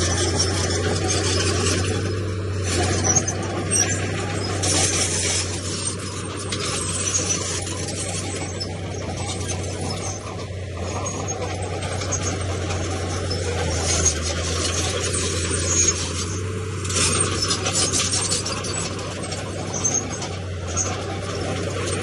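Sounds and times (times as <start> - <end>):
bulldozer diesel engine running: 0.0 - 22.0
steel tracks clattering: 0.0 - 22.0
stone scraping: 0.0 - 22.0.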